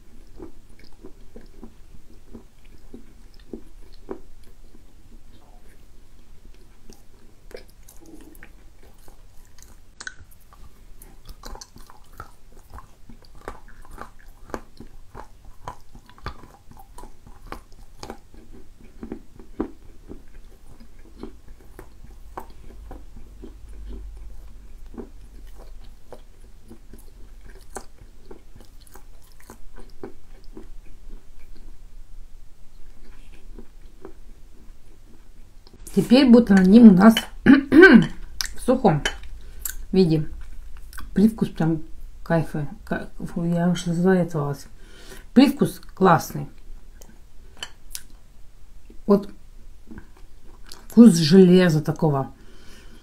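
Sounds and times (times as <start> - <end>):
wet sticky chewing: 0.0 - 31.8, 32.7 - 36.9, 38.0 - 42.1, 44.6 - 48.3, 48.9 - 51.1.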